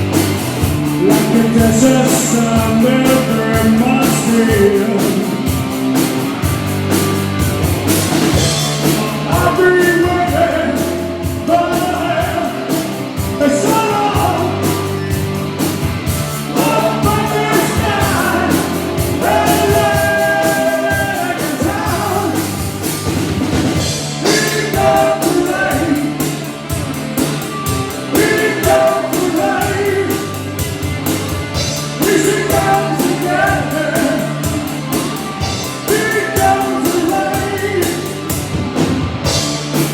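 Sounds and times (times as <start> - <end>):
rock band playing live: 0.0 - 39.9
lead vocal singing: 0.8 - 6.0, 8.3 - 15.5, 16.4 - 23.0, 23.8 - 26.8, 27.5 - 39.4.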